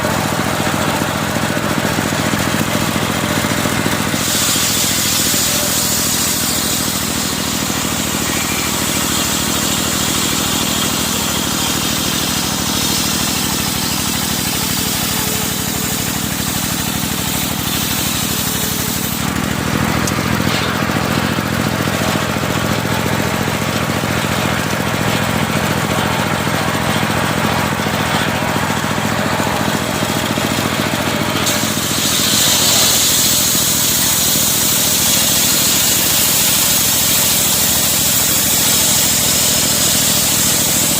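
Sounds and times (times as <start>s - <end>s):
circular sawmill sawing wood: 0.0s - 40.9s.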